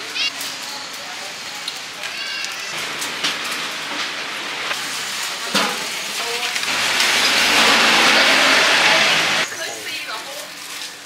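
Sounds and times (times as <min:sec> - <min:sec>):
food sizzling on a grill: 0:00.0 - 0:11.0.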